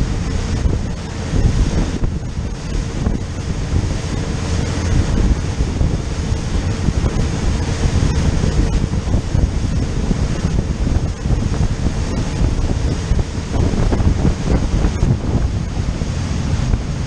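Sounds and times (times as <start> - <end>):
rush of spray from boat hull: 0.0 - 17.0
wind buffeting microphone: 0.0 - 17.0.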